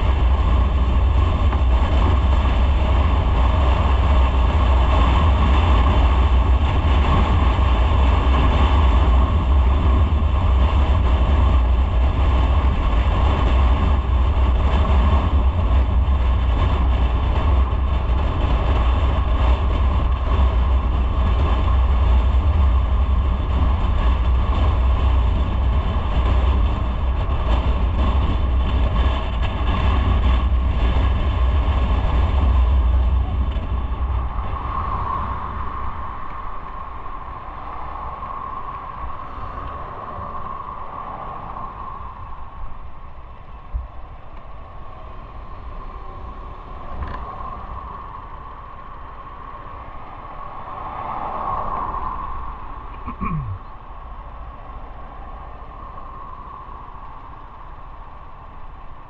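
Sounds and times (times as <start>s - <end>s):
motorcycle engine and road rumble: 0.0s - 59.0s
wind noise on microphone: 0.0s - 59.0s.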